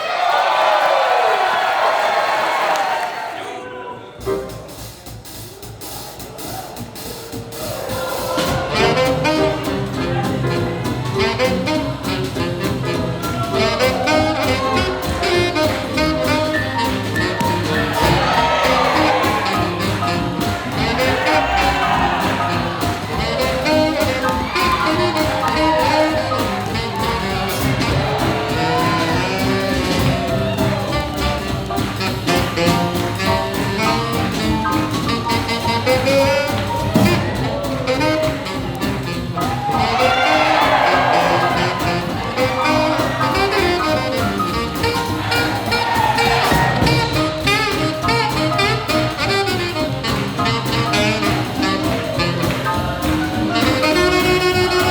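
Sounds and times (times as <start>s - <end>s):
swing jazz band playing: 4.2s - 54.9s.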